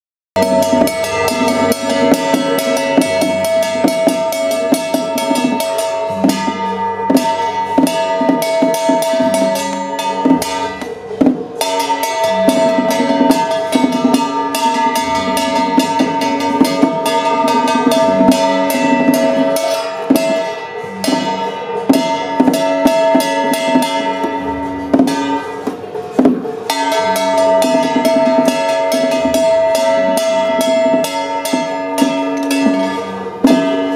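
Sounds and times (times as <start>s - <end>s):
drums and percussion: 0.4s - 33.9s
melody of long held notes: 0.4s - 33.9s.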